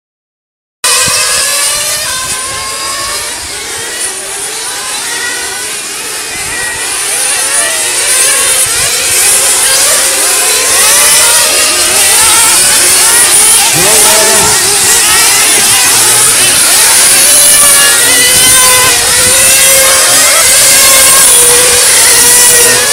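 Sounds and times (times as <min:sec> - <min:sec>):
rc car engines screaming: 0:00.8 - 0:22.9.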